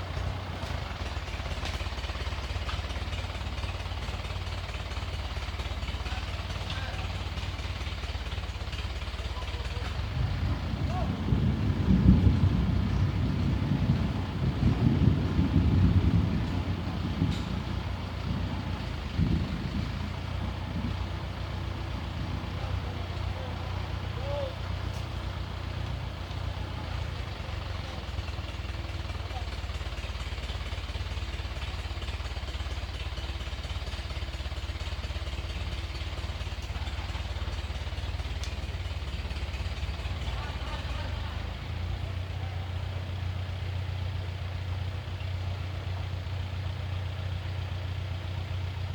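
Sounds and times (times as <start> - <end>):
engine low uneven rumble: 0.0 - 48.9.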